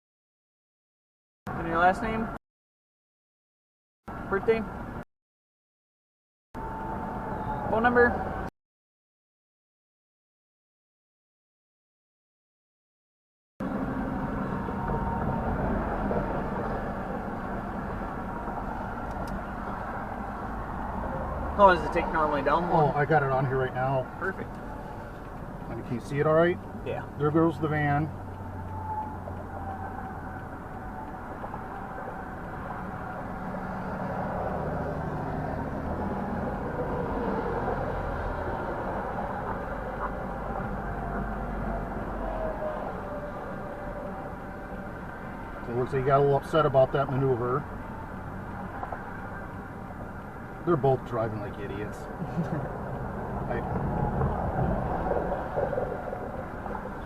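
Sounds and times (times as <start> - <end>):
low rumble of road traffic: 1.5 - 2.4, 4.1 - 5.0, 6.6 - 8.5, 13.6 - 57.0.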